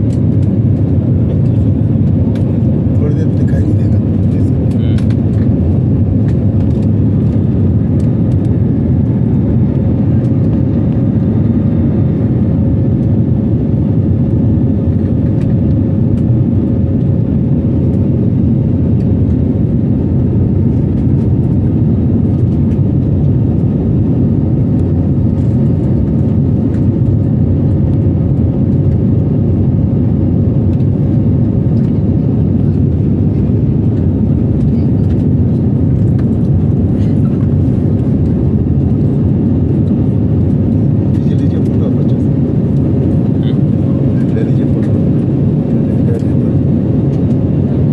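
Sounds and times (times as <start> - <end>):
airliner engines rumbling: 0.0 - 47.9.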